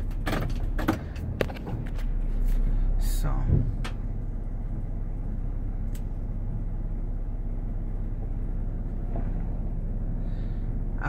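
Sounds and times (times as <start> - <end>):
van engine low hum: 0.0 - 11.0.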